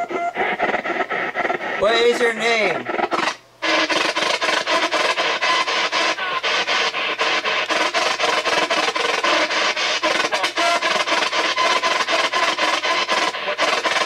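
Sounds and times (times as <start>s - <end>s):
chopping radio static: 0.0s - 14.0s.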